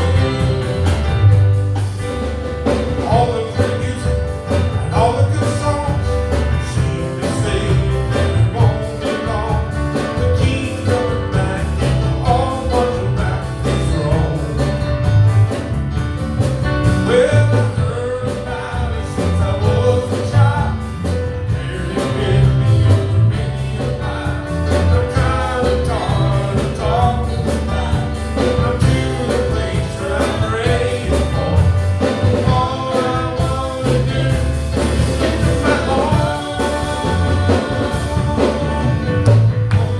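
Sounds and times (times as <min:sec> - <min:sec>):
gospel song with instruments: 0:00.0 - 0:39.9.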